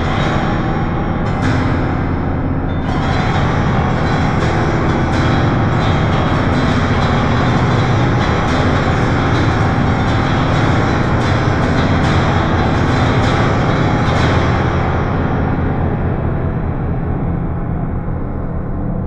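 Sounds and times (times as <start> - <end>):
deep rumbling drone music: 0.0 - 19.0.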